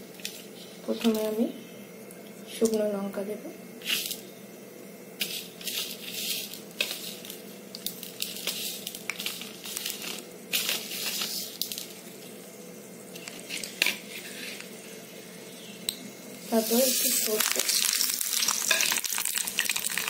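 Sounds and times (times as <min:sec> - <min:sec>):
chilli sizzling in oil: 0:02.3 - 0:20.0.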